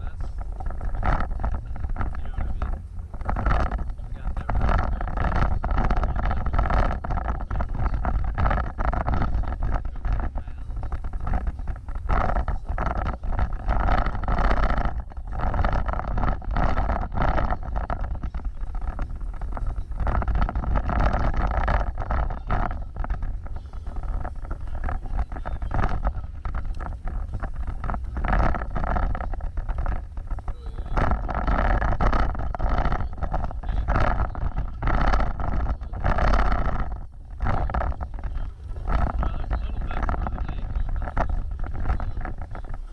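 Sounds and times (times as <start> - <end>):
off-road vehicle driving: 0.0 - 42.9
wind buffeting microphone: 0.0 - 42.9.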